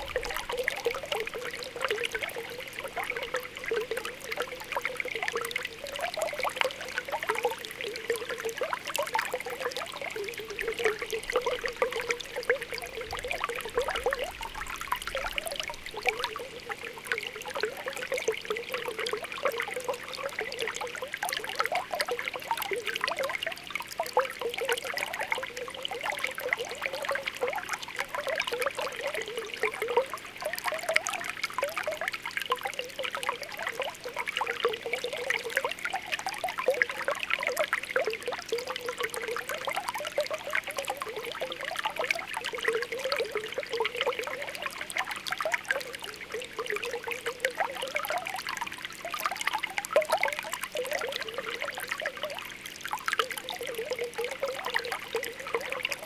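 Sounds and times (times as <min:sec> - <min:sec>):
water bubbling and gurgling: 0:00.0 - 0:56.0
water trickling: 0:00.0 - 0:56.0.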